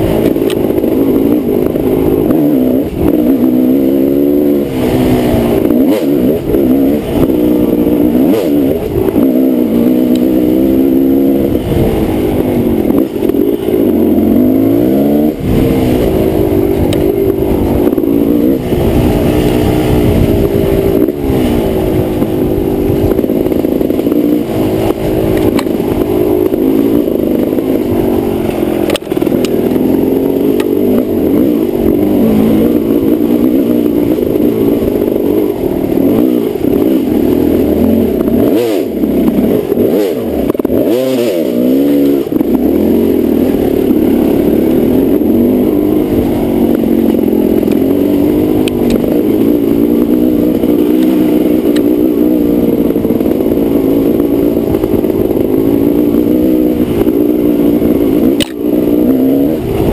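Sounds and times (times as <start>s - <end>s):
dirt bike engine revving: 0.0s - 59.9s
wind rumble on microphone: 0.0s - 59.9s.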